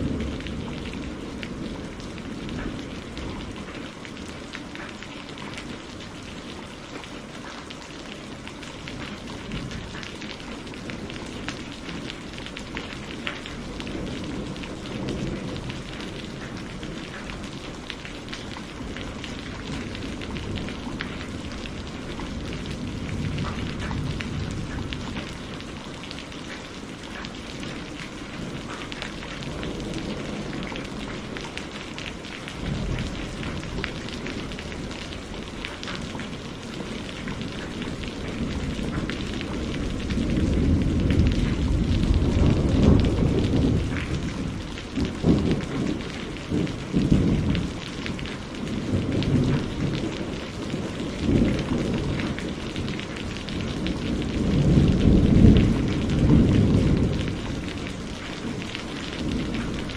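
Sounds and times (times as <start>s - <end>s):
low rumble of thunder: 0.0s - 59.9s
rain pattering: 0.0s - 59.9s.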